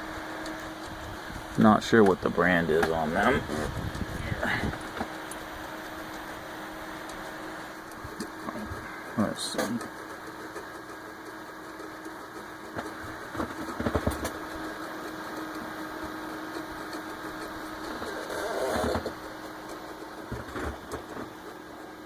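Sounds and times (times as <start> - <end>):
computer fans humming: 0.0 - 22.0.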